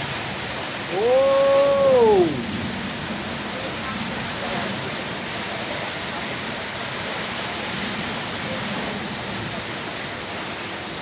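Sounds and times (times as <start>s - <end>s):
heavy rain in wind: 0.0s - 11.0s.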